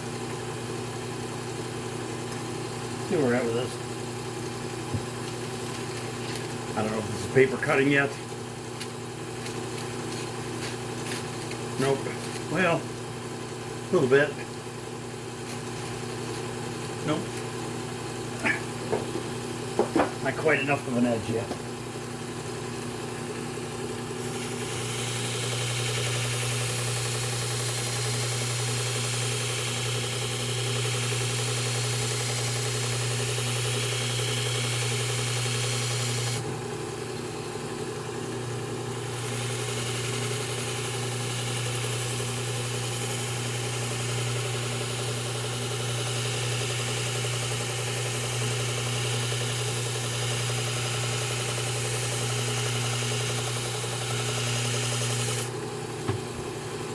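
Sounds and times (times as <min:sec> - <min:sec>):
sharpener motor running: 0:00.0 - 0:19.9, 0:22.0 - 0:37.0, 0:38.8 - 0:55.7.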